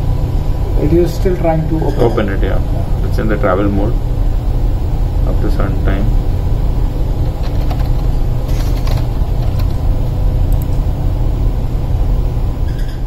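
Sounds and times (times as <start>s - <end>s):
faint constant hum: 0.0s - 13.0s
low rumble of ship machinery: 0.0s - 13.0s.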